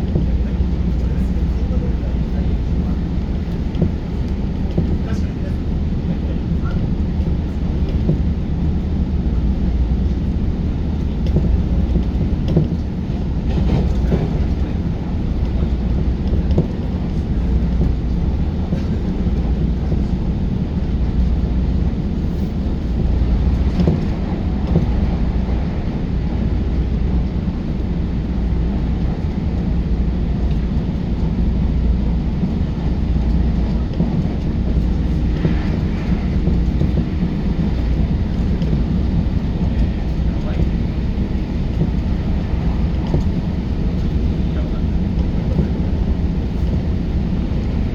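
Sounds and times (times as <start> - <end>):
train wheels rumbling: 0.0 - 47.9
faint rail clicks: 0.1 - 8.9, 9.6 - 47.9.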